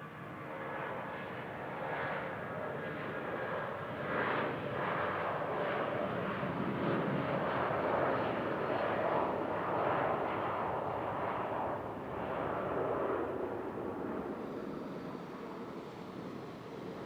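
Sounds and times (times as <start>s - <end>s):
jet airliner engines rushing: 3.0s - 17.0s.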